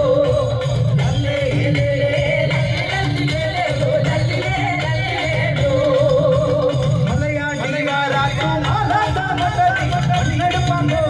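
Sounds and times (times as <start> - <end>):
steady drumming: 0.0 - 11.0.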